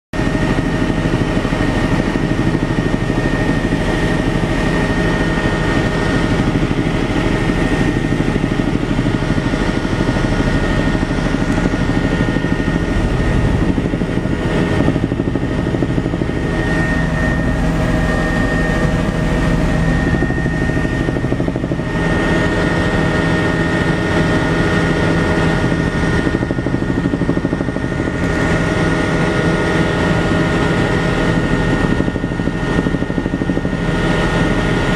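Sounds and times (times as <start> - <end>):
helicopter engine and rotor drone: 0.1 - 34.9
high whine: 0.5 - 32.1.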